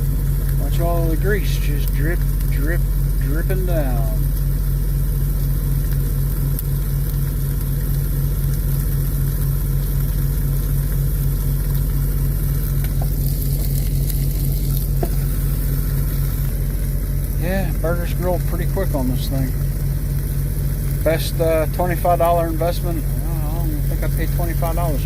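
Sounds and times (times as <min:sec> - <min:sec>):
burger patty sizzling on grill: 0:00.0 - 0:25.0
idling engine hum: 0:00.0 - 0:25.0.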